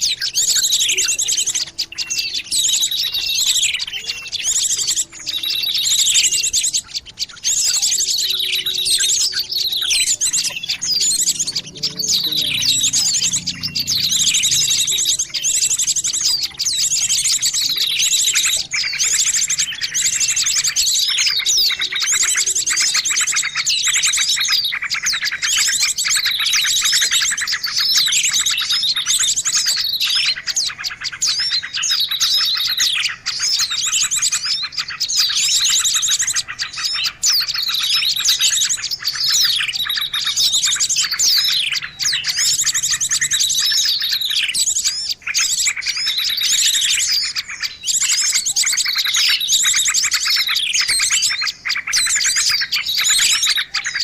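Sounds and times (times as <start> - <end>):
chorus of small birds chirping: 0.0 - 54.0.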